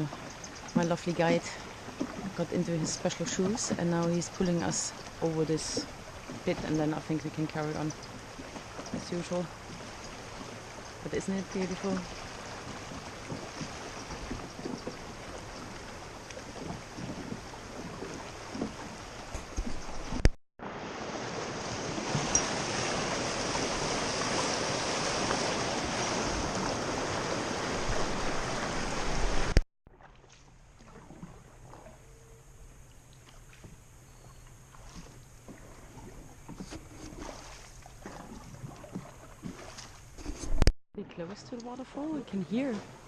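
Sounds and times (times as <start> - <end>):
rushing river water: 0.0 - 29.6, 34.6 - 40.3.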